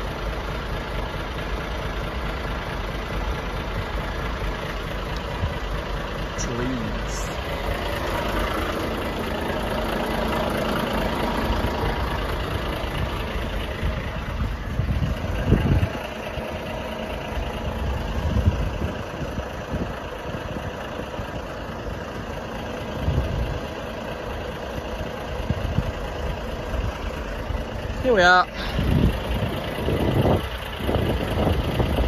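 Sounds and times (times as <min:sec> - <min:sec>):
van engine idling: 0:00.0 - 0:32.0.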